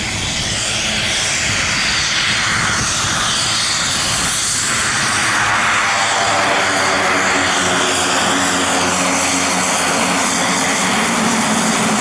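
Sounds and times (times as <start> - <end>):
propeller noise: 0.0 - 12.0
turboprop engine high whine: 0.0 - 12.0.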